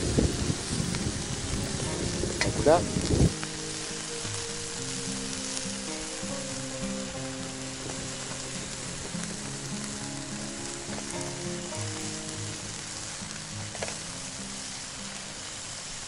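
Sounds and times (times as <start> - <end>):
background music with held notes: 0.0 - 16.0
oil sizzling on hot stone: 0.0 - 16.0.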